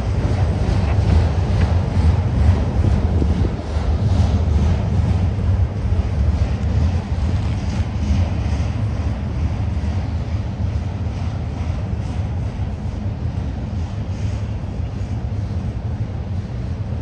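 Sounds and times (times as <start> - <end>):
diesel locomotives rumbling: 0.0 - 17.0
wind on microphone: 0.0 - 17.0.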